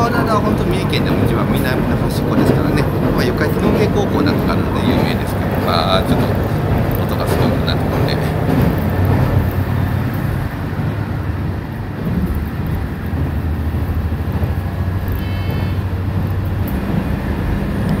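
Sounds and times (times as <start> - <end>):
railcar engine hum: 0.0 - 18.0
wheels rumbling on rail: 0.0 - 18.0.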